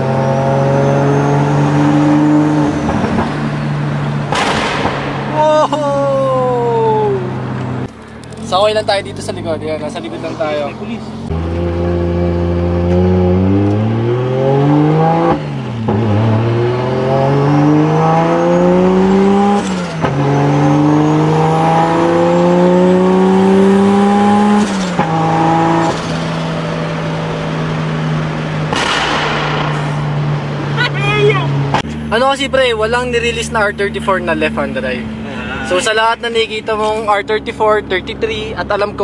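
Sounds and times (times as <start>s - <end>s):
car engine accelerating through gears: 0.0s - 5.4s, 6.0s - 39.0s.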